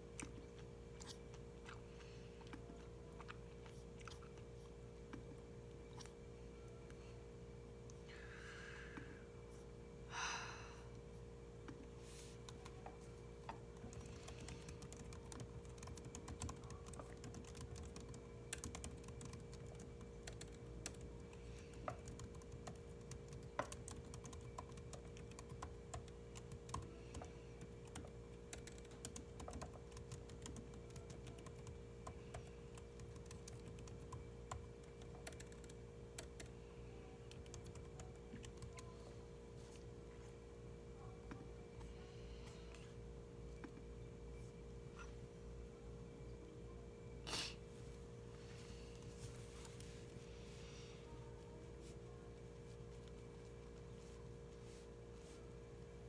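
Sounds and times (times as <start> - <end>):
constant low hum: 0.0 - 56.0.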